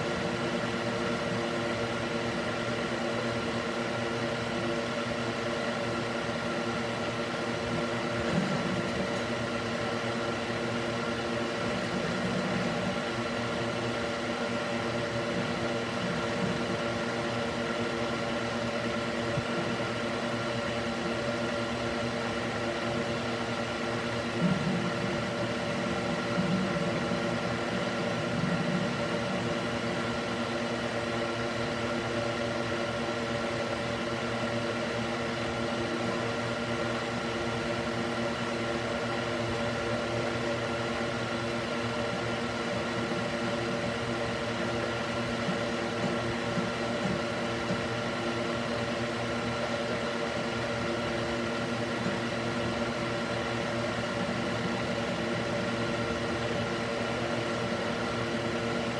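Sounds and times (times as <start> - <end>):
electric fan whirring: 0.0 - 58.9.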